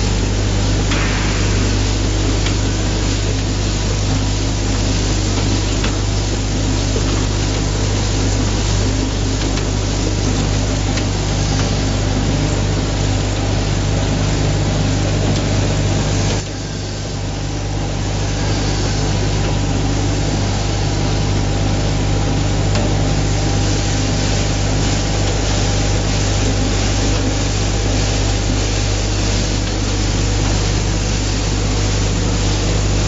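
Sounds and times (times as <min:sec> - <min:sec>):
conveyor mechanical hum: 0:00.0 - 0:33.0.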